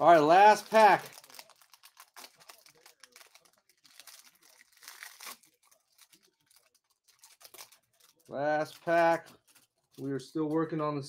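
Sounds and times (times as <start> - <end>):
trading cards rustling: 0.2 - 10.6.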